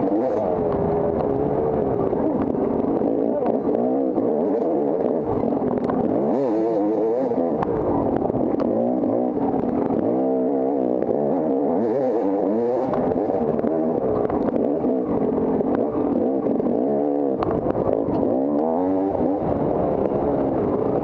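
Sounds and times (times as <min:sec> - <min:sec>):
sharp clicks and knocks: 0:00.0 - 0:06.5, 0:07.4 - 0:10.3, 0:12.3 - 0:21.0
dirt bike engine revving: 0:00.0 - 0:21.0.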